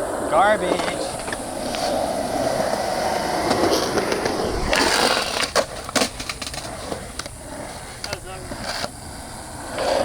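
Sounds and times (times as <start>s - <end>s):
skateboard clack: 0.0s - 10.0s
skateboard wheels rolling on concrete: 0.0s - 10.0s.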